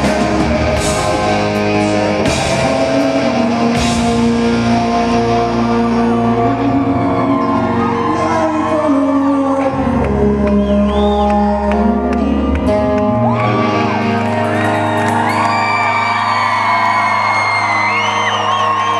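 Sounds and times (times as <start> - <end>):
audience whooping and screaming: 0.0 - 18.9
live rock band playing: 0.0 - 18.9.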